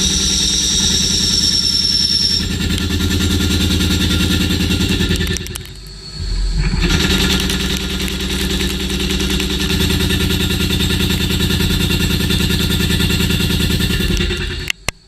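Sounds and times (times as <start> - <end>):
machine running with fast pulsing: 0.0 - 15.0.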